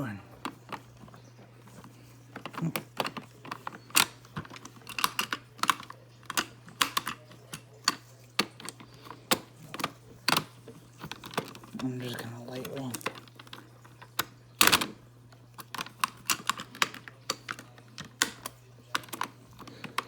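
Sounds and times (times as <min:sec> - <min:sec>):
screwdriver clicking on plastic: 0:00.4 - 0:20.0.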